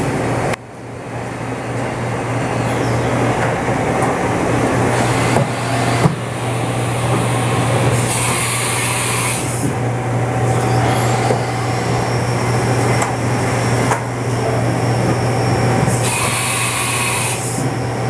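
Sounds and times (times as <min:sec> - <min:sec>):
low machinery hum: 0:00.0 - 0:18.0.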